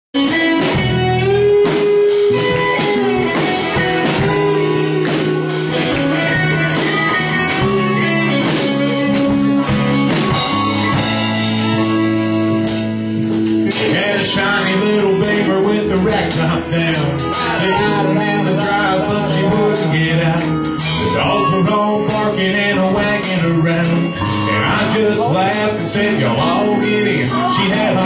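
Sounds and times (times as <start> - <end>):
live country band with guitar: 0.2 - 28.0.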